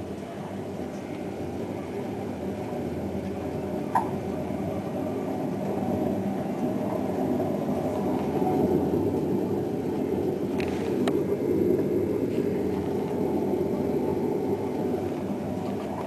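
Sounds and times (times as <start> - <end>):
washing machine rumbling: 0.0 - 16.0.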